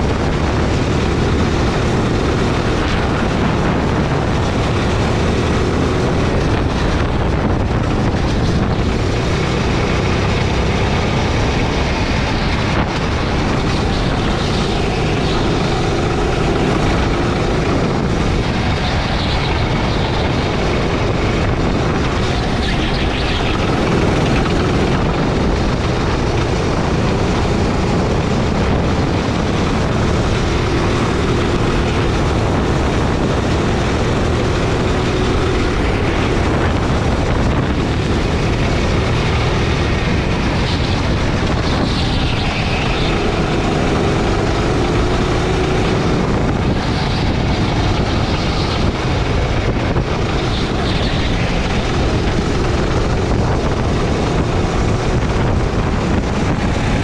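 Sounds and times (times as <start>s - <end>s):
go-kart engine running: 0.0s - 57.0s
loud rush of noise: 0.0s - 57.0s.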